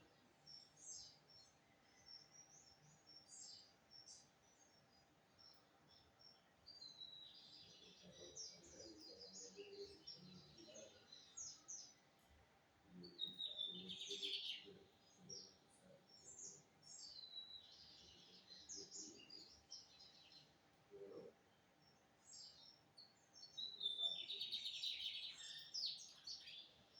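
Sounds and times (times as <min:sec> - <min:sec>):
bird chirping song: 0:00.0 - 0:26.9.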